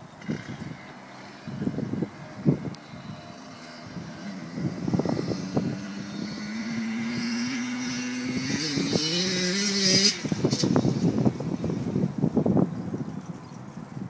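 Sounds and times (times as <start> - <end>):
distant motorbike engine accelerating: 0.0 - 13.7
wind rumbling on microphone: 0.0 - 14.0.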